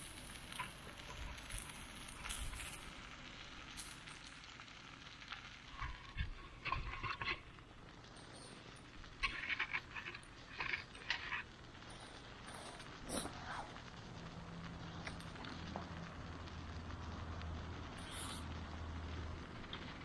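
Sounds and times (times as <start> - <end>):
campfire crackling and popping: 0.0 - 20.0
food sizzling on a grill: 0.0 - 20.0.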